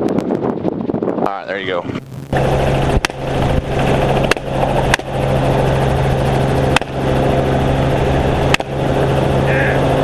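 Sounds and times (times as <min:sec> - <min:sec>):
helicopter running: 0:00.0 - 0:10.0.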